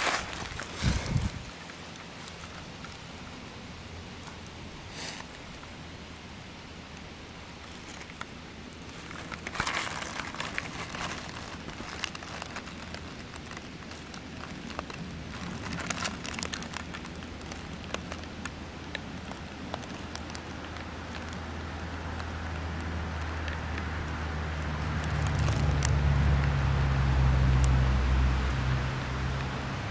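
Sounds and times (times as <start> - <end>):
dry leaves rustling and crackling: 0.0 - 5.8, 7.3 - 26.4
low steady hum: 0.0 - 29.9.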